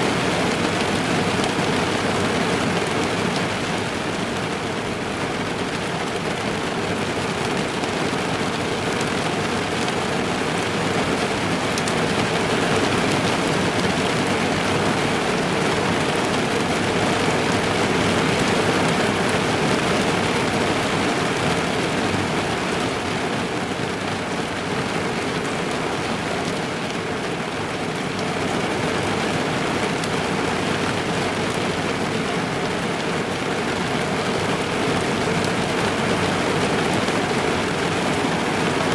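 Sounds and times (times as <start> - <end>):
rain drumming on car roof: 0.0 - 38.9.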